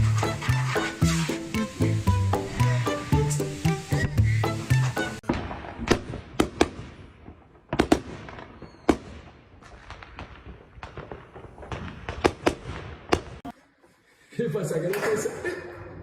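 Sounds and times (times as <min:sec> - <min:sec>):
firecrackers banging: 0:00.0 - 0:13.5.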